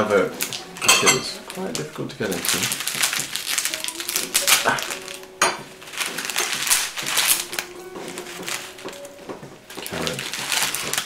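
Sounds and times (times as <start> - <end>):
background music: 0.0 - 11.0
packet crinkling and rustling: 0.0 - 11.0
sharp crackle of packet: 1.5 - 9.1, 9.7 - 11.0.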